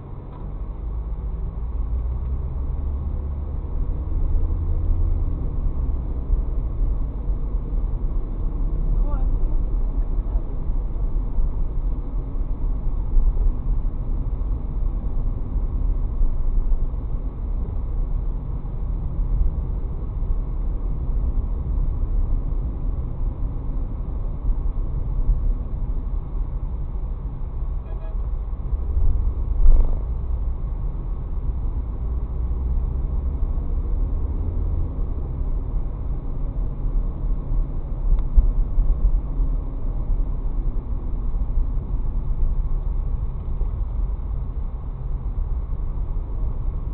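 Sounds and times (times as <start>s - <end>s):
car interior low rumble: 0.0s - 46.9s.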